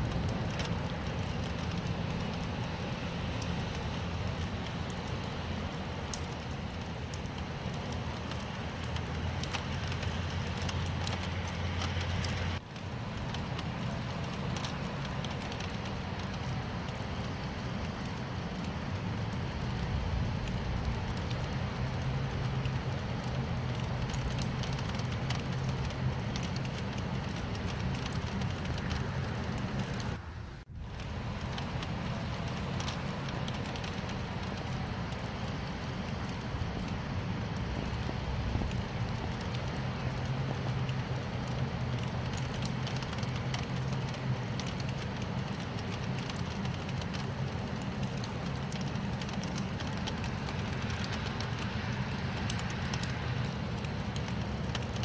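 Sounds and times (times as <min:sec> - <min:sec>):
continuous low rumble: 0:00.0 - 0:55.0
steady rain: 0:00.0 - 0:55.0.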